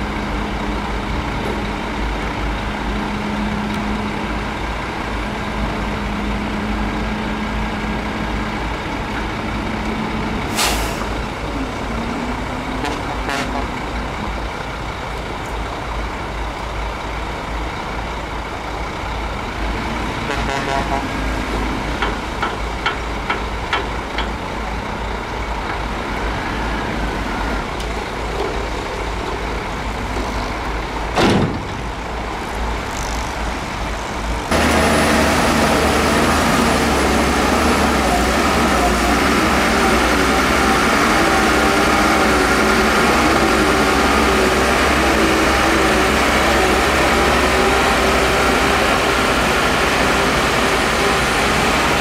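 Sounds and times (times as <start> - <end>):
heavy diesel machinery rumbling: 0.0 - 52.0.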